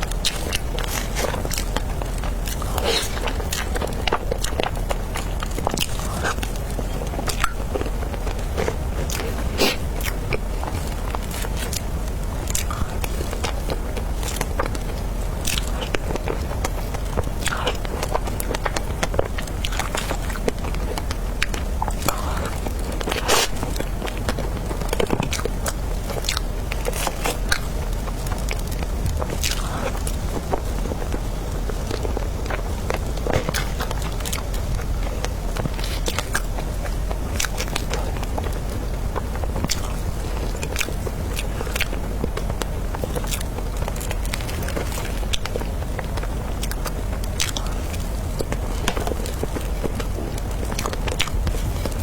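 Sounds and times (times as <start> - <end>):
low steady hum: 0.0 - 52.0
person chewing: 0.0 - 52.0.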